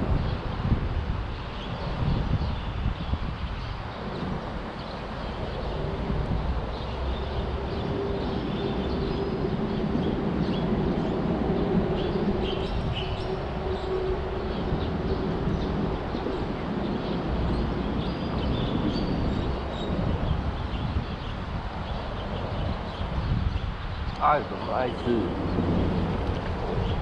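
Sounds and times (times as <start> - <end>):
road traffic rumble: 0.0 - 27.0
small birds chirping: 1.3 - 27.0.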